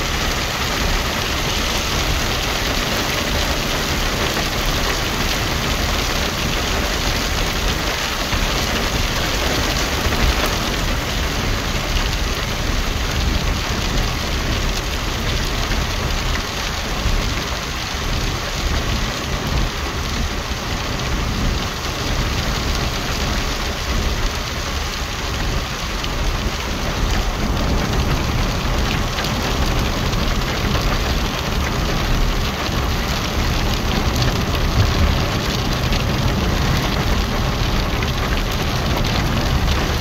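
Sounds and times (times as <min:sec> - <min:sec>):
heavy rain on a car: 0:00.0 - 0:40.0
tyres on wet road: 0:00.0 - 0:40.0.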